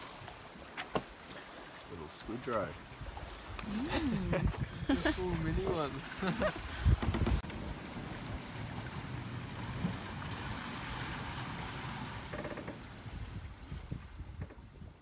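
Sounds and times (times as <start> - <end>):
rush of water and wind: 0.0 - 15.0.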